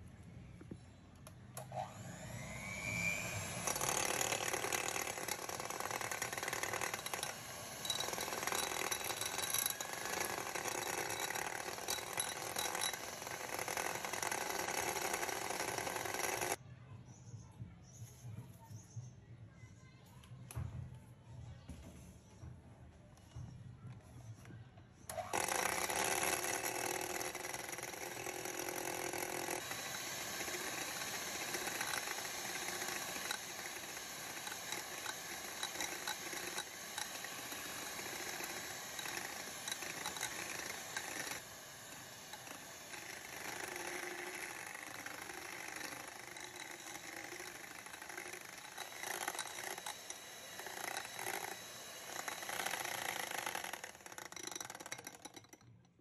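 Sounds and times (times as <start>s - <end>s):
electric hand mixer whirring: 1.6s - 16.6s, 25.1s - 55.6s.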